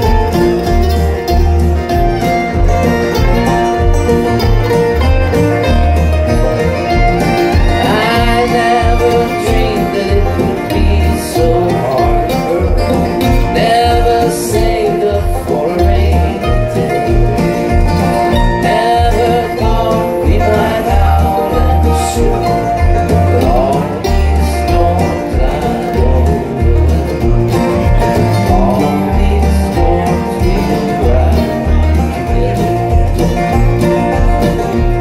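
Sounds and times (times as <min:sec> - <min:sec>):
banjo: 0:00.0 - 0:35.0
fiddle: 0:00.0 - 0:35.0
live bluegrass band: 0:00.0 - 0:35.0.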